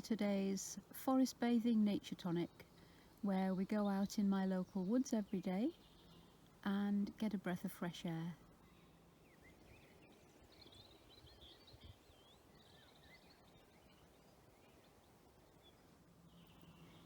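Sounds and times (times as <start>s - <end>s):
faint songbirds singing: 0.0s - 17.0s.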